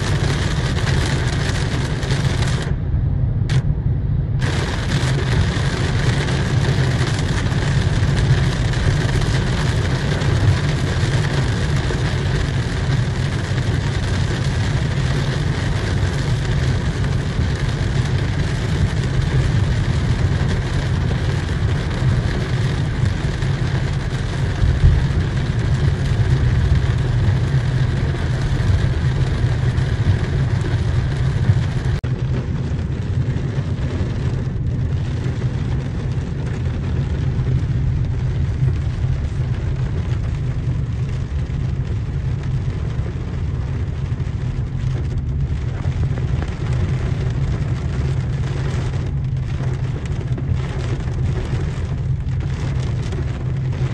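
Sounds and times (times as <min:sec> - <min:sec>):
car engine and road rumble: 0:00.0 - 0:53.9
rain on car windshield: 0:00.0 - 0:53.9.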